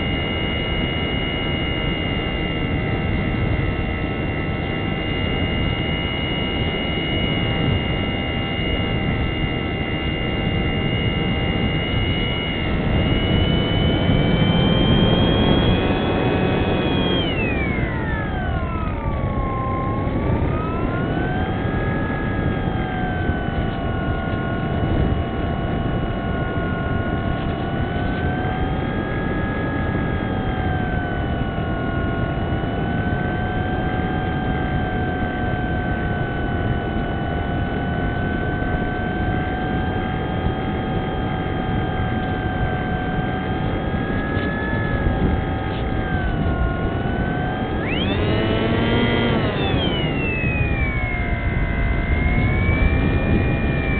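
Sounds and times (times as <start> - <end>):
motor and propeller whine: 0.0 - 53.9.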